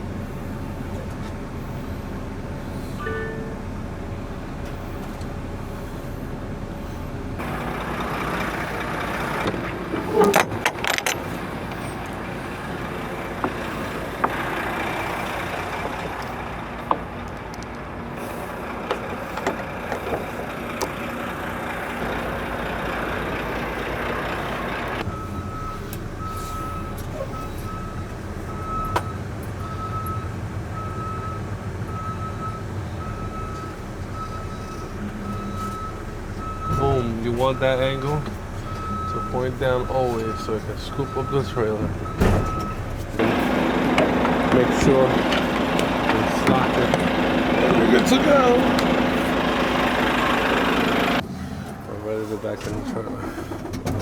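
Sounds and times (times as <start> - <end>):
truck backup alarm beeping: 0.0 - 54.0
truck engine rushing noise: 0.0 - 54.0.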